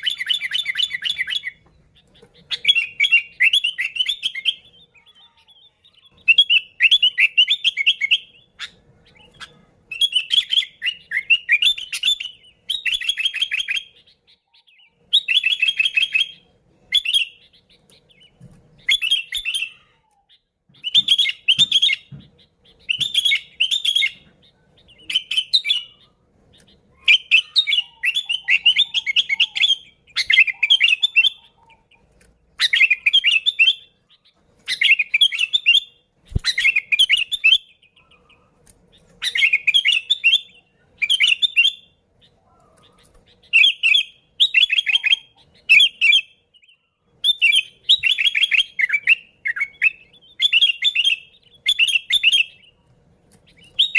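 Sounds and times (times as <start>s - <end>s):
bulbul singing: 0.0s - 53.9s.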